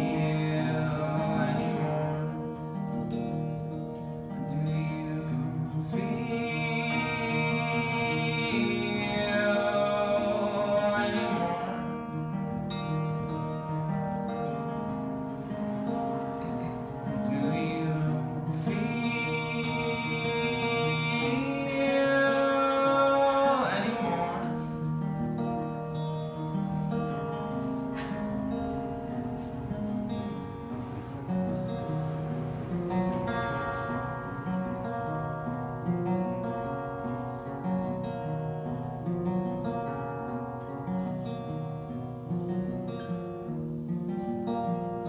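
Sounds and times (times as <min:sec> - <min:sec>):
acoustic guitar playing: 0:00.0 - 0:45.0.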